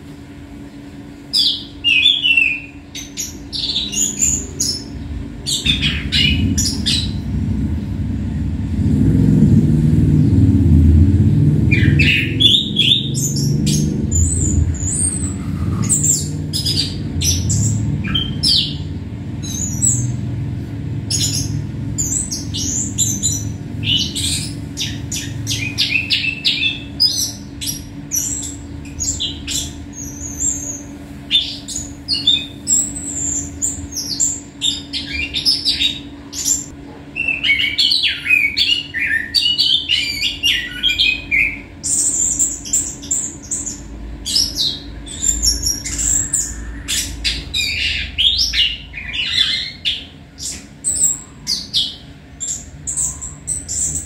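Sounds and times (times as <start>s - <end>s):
songbird singing: 0.6s - 8.7s, 9.4s - 54.0s.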